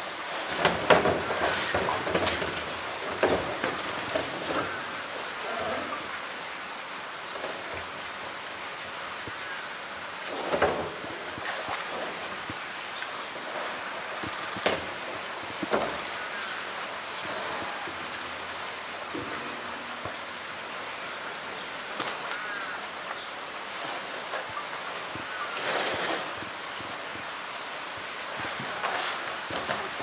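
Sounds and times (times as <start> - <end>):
cicada chorus: 0.0 - 30.0.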